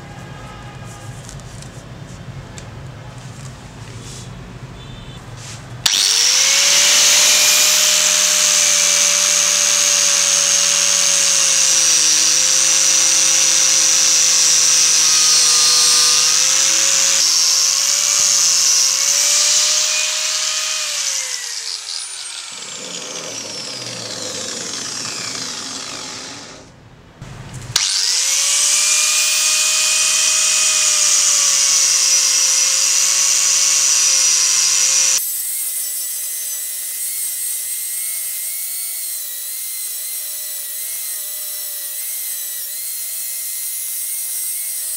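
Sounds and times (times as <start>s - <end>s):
angle grinder whining: 5.8s - 26.8s, 27.8s - 44.9s.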